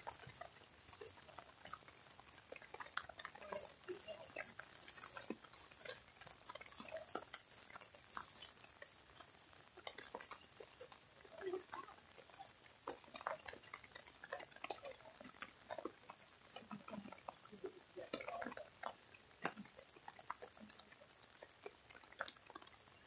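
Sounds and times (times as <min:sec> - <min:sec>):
rain dripping and pattering: 0:00.0 - 0:23.0.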